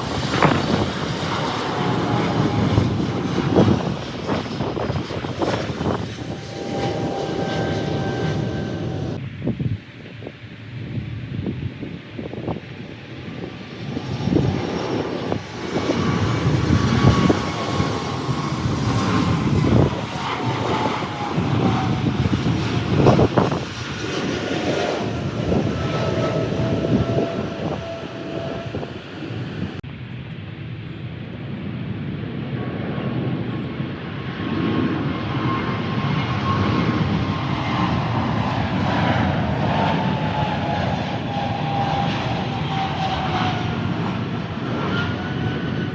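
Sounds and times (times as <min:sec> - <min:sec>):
jet airliner passing overhead: 0:00.0 - 0:45.9.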